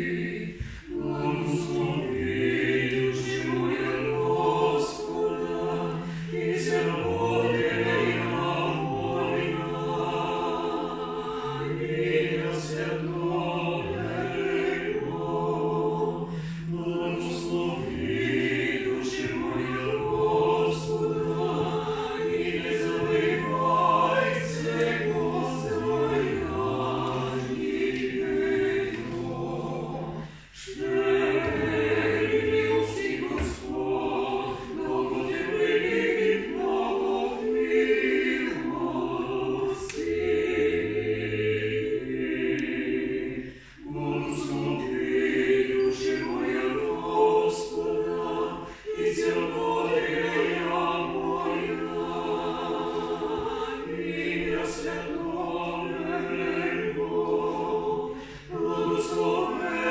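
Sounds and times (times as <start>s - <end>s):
small choir singing a cappella: 0.0s - 59.9s.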